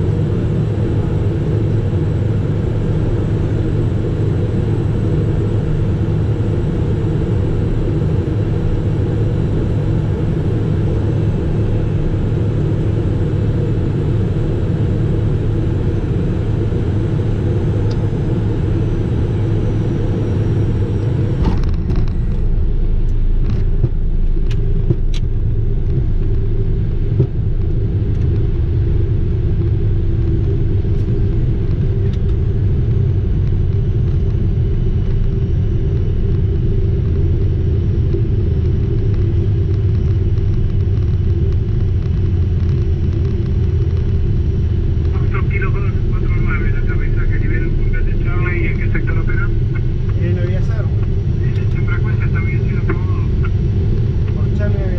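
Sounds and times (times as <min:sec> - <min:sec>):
airflow and jet engines rushing: 0:00.0 - 0:54.9.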